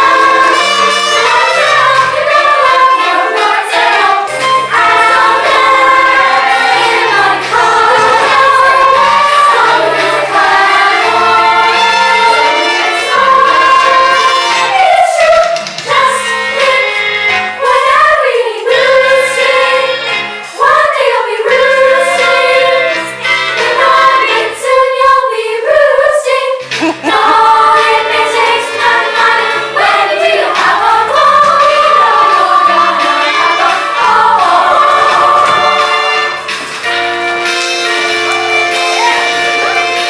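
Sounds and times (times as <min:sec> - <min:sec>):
instrumental accompaniment: 0:00.0 - 0:25.5, 0:26.6 - 0:40.0
chorus singing: 0:00.0 - 0:40.0.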